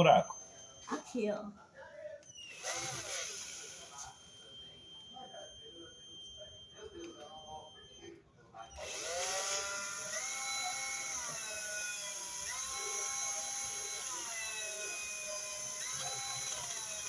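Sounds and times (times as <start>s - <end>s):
electric drill whining: 0.0s - 1.2s, 2.2s - 17.0s.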